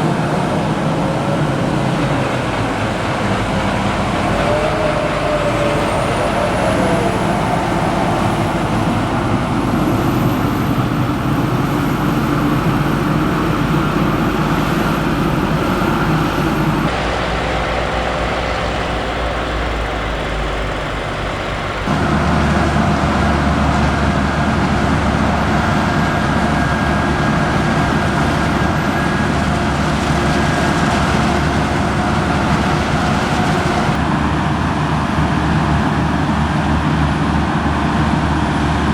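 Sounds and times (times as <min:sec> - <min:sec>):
diesel engines of farm machinery: 0:00.0 - 0:38.9.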